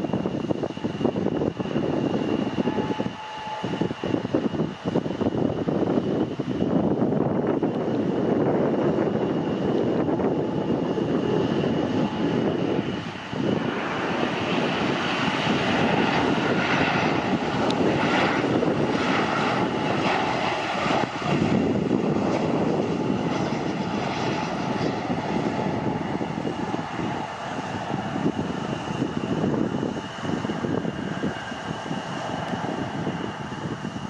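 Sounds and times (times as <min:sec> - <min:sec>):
jet engines rumbling and whining: 0:00.0 - 0:34.0.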